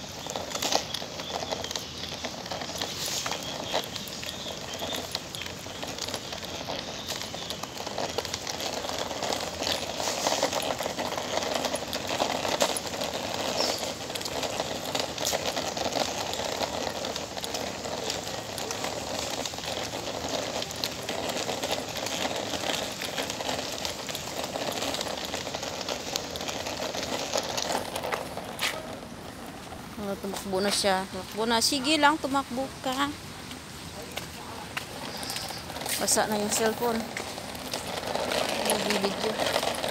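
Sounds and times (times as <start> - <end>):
scooter wheels rolling on asphalt: 0.0 - 39.9.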